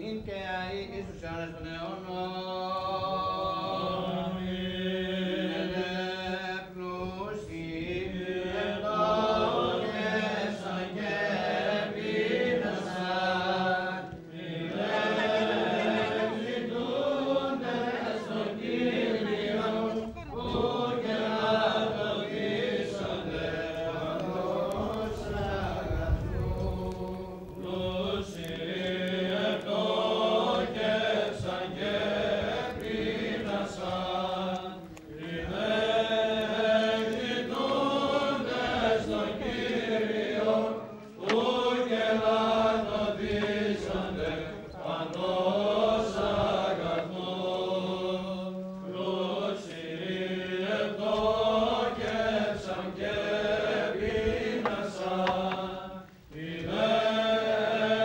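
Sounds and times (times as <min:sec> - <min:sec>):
voices chanting a hymn: 0:00.0 - 0:58.0.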